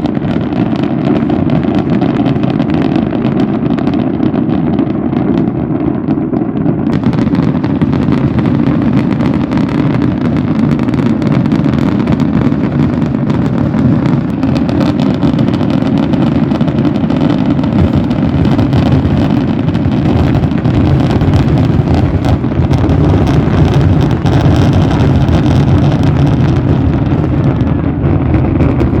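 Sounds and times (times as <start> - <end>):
fireworks booming: 0.0 - 29.0
fireworks crackling: 0.0 - 29.0.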